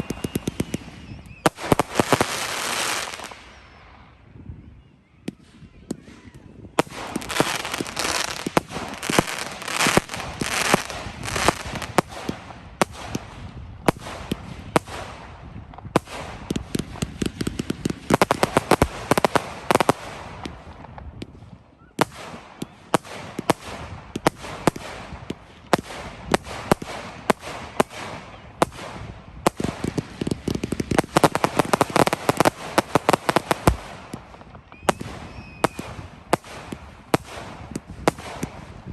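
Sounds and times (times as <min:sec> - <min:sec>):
fireworks crackling and banging: 0:00.0 - 0:03.8, 0:05.2 - 0:38.9.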